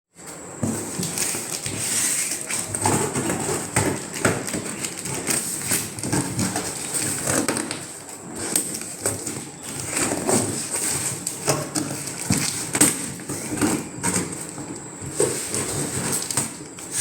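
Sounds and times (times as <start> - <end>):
cardboard packaging handled: 0.2 - 17.0.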